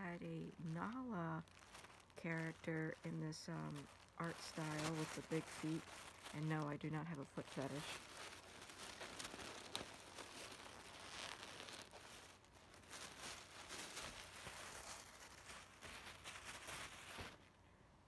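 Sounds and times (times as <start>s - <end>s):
plastic bag crinkling: 0.0s - 17.6s.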